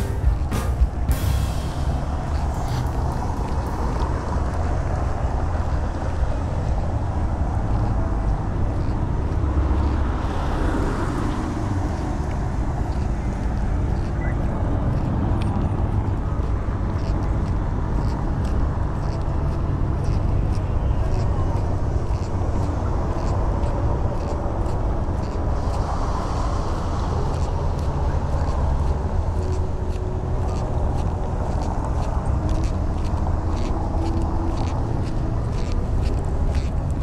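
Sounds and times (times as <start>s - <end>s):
car passing: 0.0s - 37.0s
traffic rumble: 0.0s - 37.0s.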